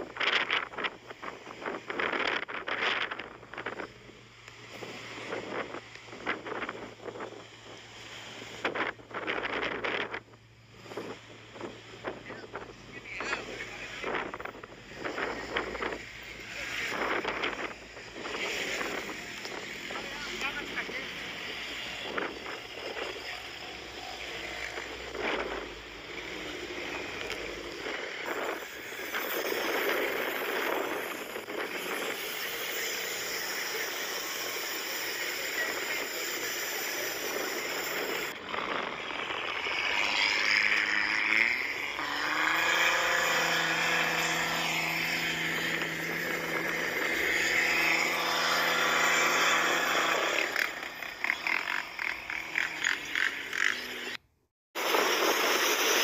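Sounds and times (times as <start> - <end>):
engine revving under load: 0.0 - 36.6, 37.2 - 54.2
noise: 0.0 - 56.0.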